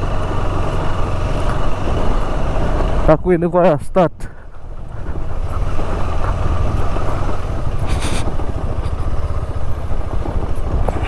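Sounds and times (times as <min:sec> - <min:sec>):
motorcycle engine rumbling: 0:00.0 - 0:11.0
road and wind noise: 0:00.0 - 0:11.0.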